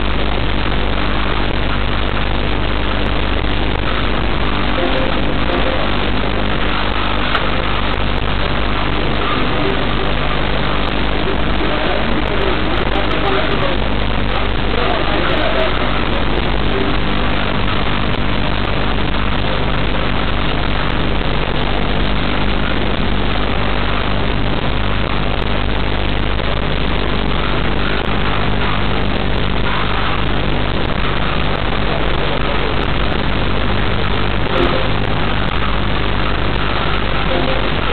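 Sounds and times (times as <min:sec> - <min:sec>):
mechanical drone: 0:00.0 - 0:37.9.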